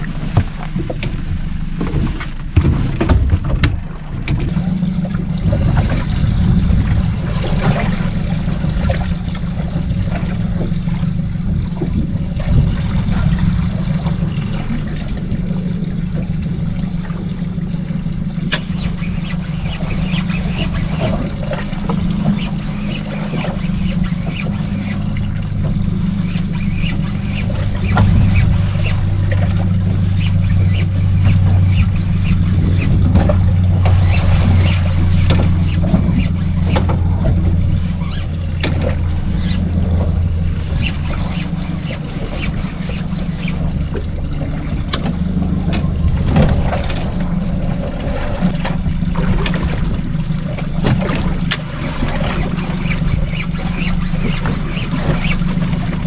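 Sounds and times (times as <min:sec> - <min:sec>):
boat engine running: 0:00.0 - 0:56.0
water lapping against hull: 0:00.0 - 0:56.0.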